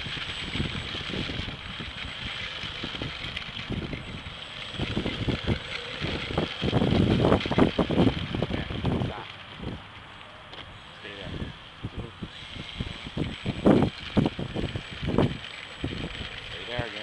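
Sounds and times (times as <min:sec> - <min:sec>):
wind buffeting microphone: 0:00.0 - 0:09.9, 0:11.2 - 0:17.0
model plane motor whine: 0:00.0 - 0:17.0.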